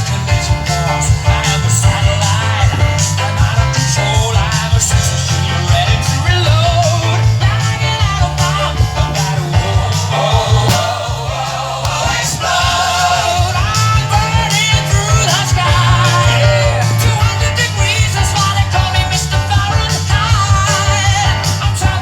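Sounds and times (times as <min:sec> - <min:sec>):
song with singing voice: 0:00.0 - 0:22.0.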